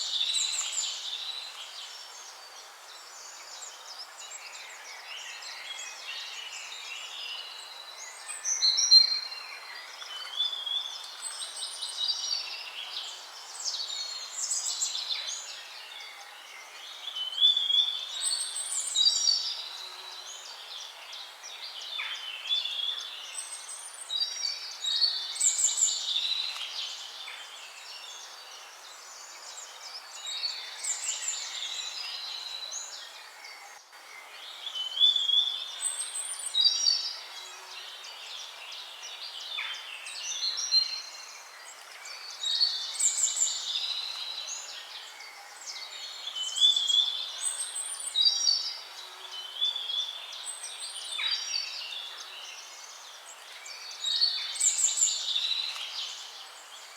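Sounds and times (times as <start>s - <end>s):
songbirds singing: 0.0s - 56.9s
background hiss: 9.7s - 56.9s.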